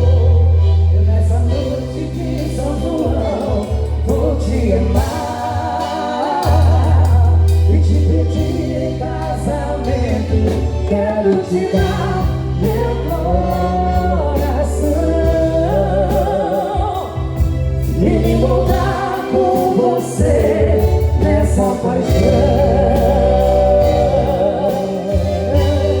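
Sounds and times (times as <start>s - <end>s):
heavy bass line: 0.0s - 26.0s
wordless singing with vibrato: 0.0s - 26.0s.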